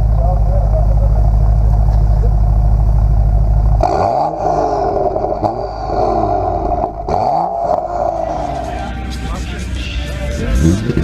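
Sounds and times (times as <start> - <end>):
car engine revving: 0.0 - 11.0
deep engine rumble: 0.0 - 11.0.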